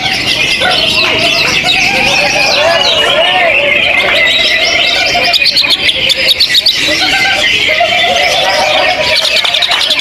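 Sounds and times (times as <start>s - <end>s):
songbirds chirping and trilling: 0.0s - 10.0s.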